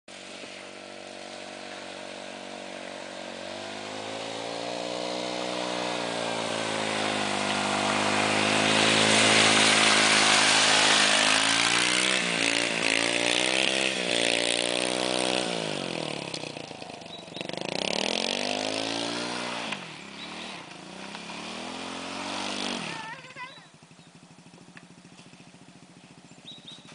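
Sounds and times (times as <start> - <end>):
atv engine running: 0.1 - 26.9.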